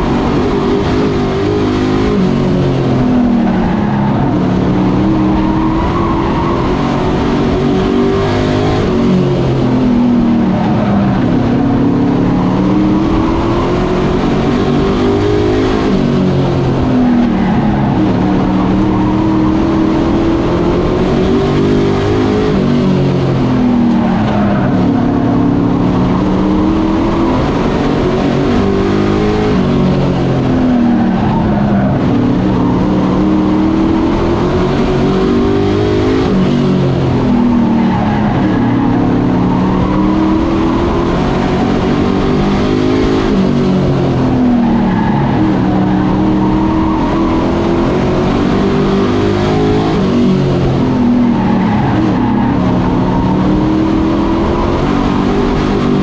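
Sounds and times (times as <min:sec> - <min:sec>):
race truck engines running hard: 0:00.0 - 0:56.0.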